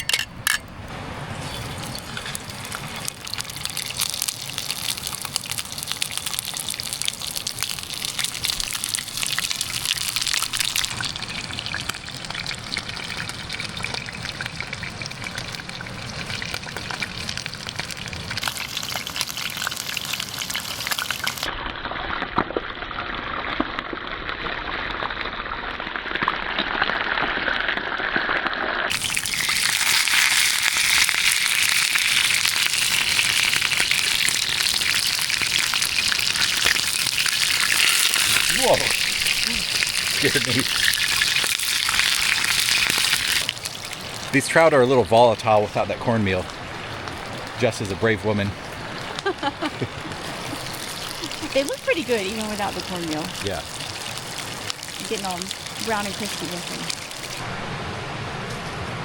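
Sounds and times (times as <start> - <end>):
fish frying in hot oil: 1.3 - 57.4.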